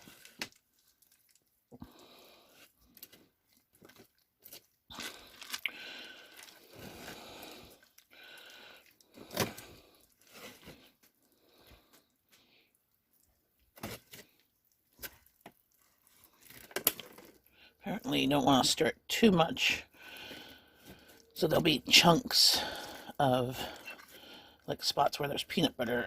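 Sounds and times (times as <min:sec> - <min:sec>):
stirring thick batter: 0:00.0 - 0:17.5, 0:19.9 - 0:25.8.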